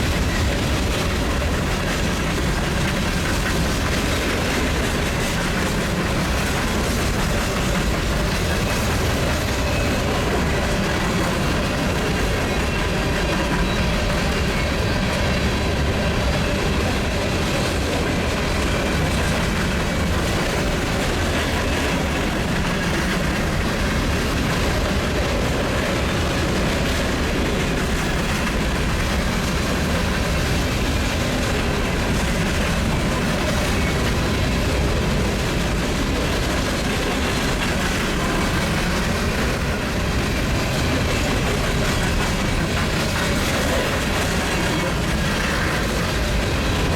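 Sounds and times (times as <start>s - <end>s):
train wheels clattering over rails: 0.0s - 46.9s.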